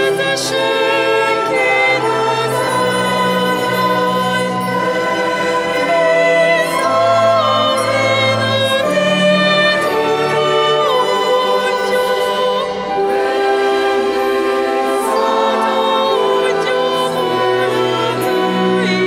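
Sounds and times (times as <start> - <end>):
choir singing: 0.0 - 19.0
small orchestra playing: 0.0 - 19.0.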